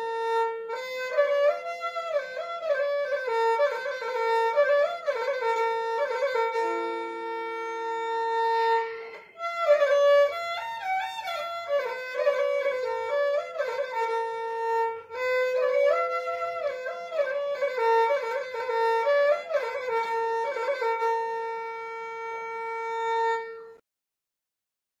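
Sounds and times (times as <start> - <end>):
instrumental melody with held notes: 0.0 - 23.8.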